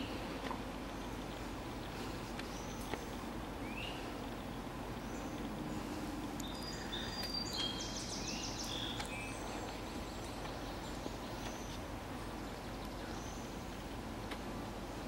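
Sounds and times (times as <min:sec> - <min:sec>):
outdoor background noise: 0:00.0 - 0:15.0
bird chirps and trill: 0:00.9 - 0:13.6.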